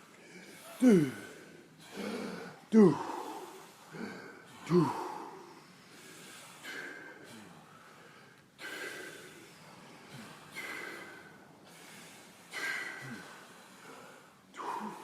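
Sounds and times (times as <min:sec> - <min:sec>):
deep forceful breathing: 0:00.0 - 0:15.0.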